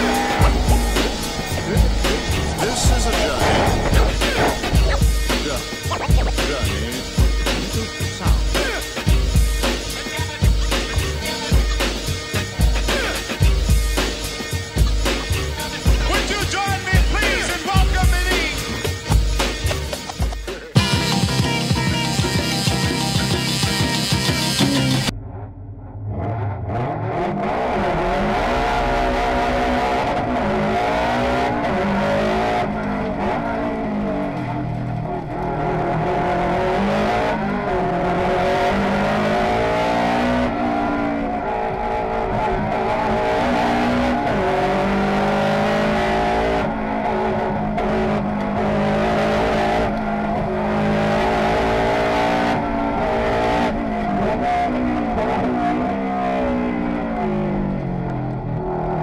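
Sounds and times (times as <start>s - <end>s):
rally car engine revving high: 0.0s - 59.0s.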